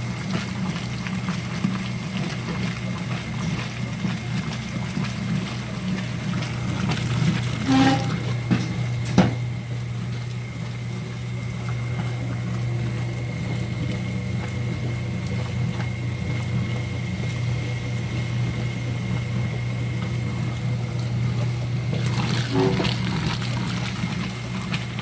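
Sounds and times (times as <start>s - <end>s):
washing machine motor humming: 0.0s - 25.0s.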